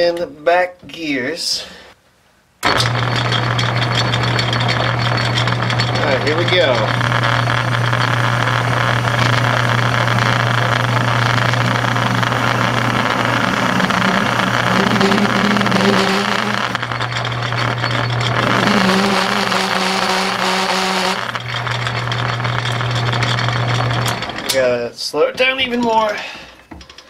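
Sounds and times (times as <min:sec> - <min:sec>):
tool chatter tone: 0:02.6 - 0:26.2
lathe motor hum: 0:02.7 - 0:24.7.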